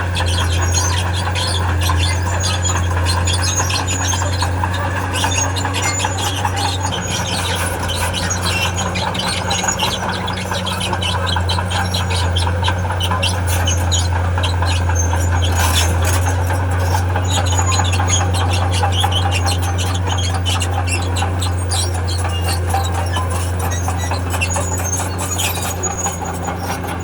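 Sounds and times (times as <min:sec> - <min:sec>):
diesel engine running: 0:00.0 - 0:27.0
steel tracks squealing and clicking: 0:00.0 - 0:27.0.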